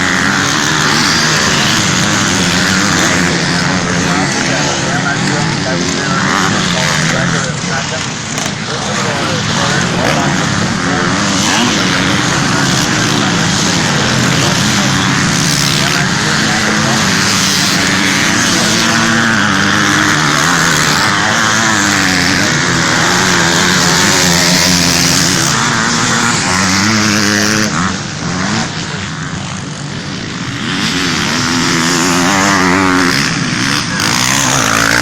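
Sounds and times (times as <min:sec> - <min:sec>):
motocross bikes revving: 0:00.0 - 0:35.0.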